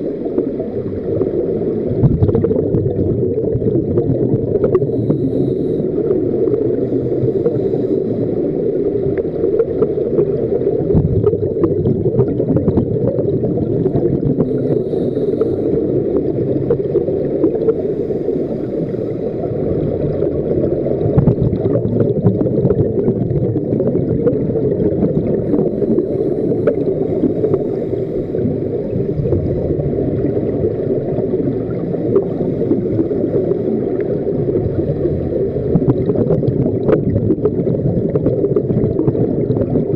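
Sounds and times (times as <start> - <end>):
underwater bubbles and breathing: 0.0 - 39.9.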